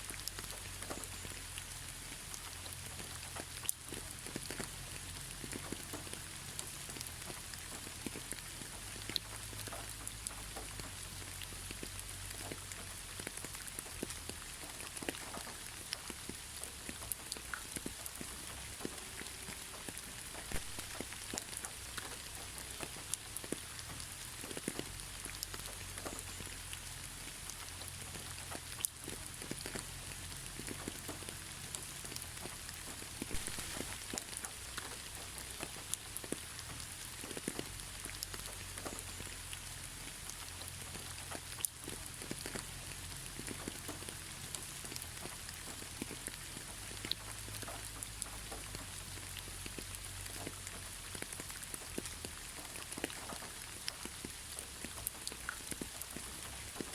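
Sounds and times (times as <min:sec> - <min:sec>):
raindrops ticking: 0:00.0 - 0:56.9
steady gentle rain: 0:00.0 - 0:56.9.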